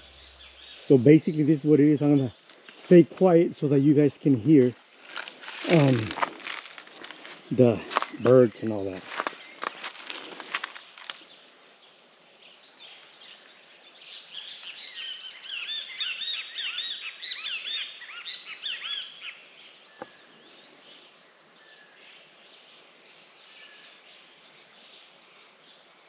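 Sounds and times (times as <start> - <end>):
birds chirping: 0.0 - 25.8.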